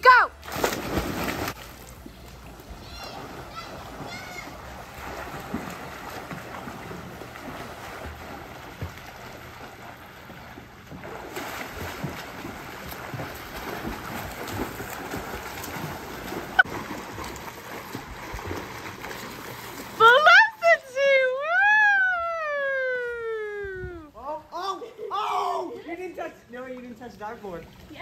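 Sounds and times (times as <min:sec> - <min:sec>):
children splashing in pool: 0:00.1 - 0:23.7.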